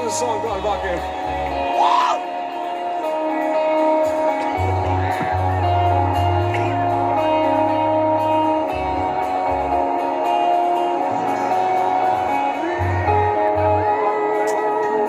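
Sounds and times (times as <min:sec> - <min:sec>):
guitar chords ringing: 0:00.0 - 0:15.0
low bass line: 0:00.0 - 0:15.0
rock band playing: 0:00.0 - 0:15.0.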